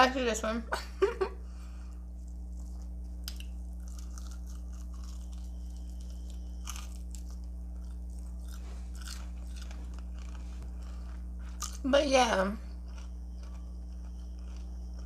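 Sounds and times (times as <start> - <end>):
steady low hum: 0.0 - 15.0
crunchy chewing: 1.6 - 11.9, 12.6 - 15.0.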